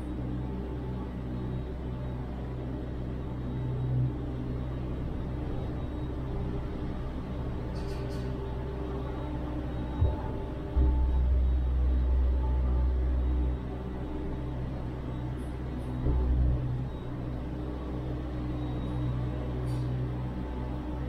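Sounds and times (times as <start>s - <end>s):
lift machinery humming: 0.0s - 21.0s.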